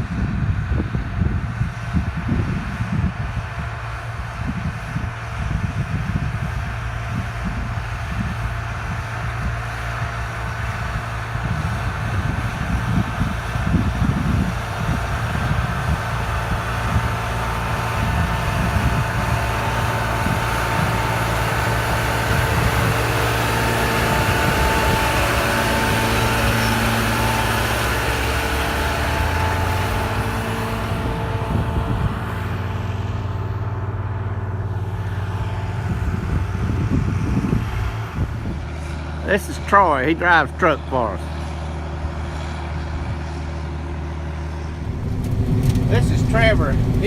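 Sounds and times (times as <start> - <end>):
farm vehicle engine droning: 0.0 - 47.0.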